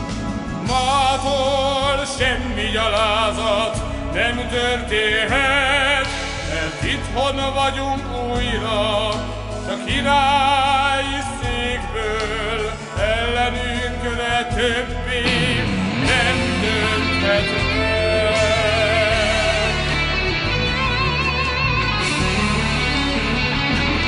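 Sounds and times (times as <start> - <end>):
man singing with vibrato: 0.0 - 21.6
instrumental accompaniment: 0.0 - 24.0.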